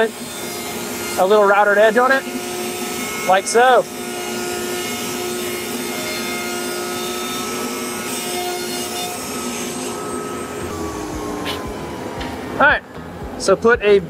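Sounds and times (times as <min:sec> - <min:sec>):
router cutting plastic: 0:00.0 - 0:12.7.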